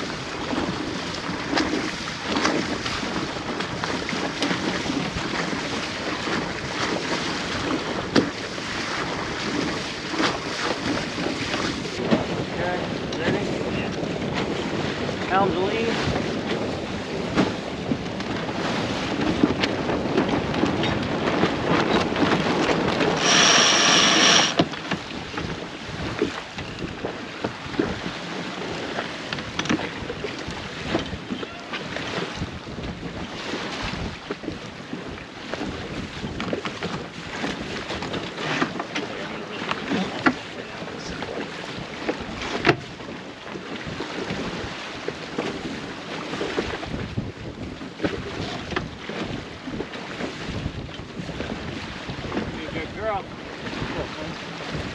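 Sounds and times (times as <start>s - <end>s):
wind buffeting microphone: 0.0s - 23.2s, 23.9s - 54.9s
water rushing along hull: 0.0s - 54.9s.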